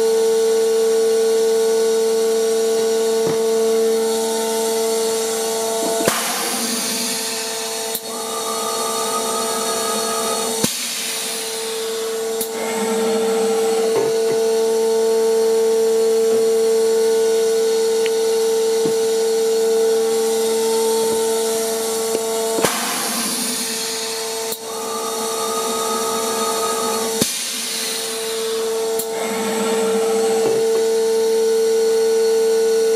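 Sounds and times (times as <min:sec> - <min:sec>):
machine hum: 0:00.0 - 0:32.9.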